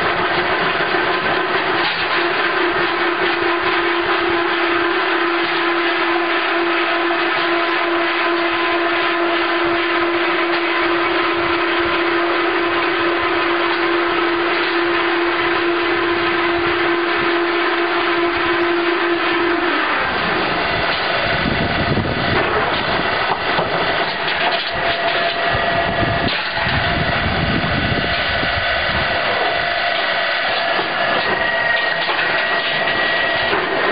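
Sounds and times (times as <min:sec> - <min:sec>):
lathe machine noise with whine: 0:00.0 - 0:33.9.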